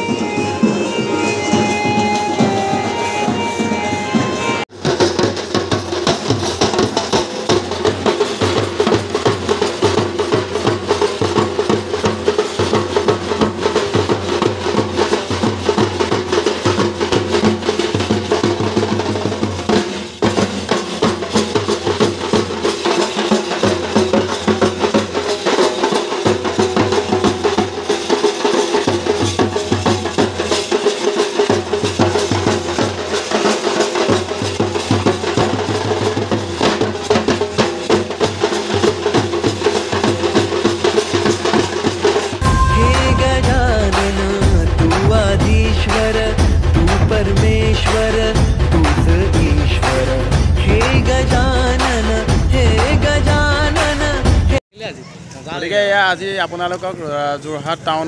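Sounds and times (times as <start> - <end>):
snare drum: 0.0 - 53.2
barrel drums beaten with sticks: 4.8 - 54.6.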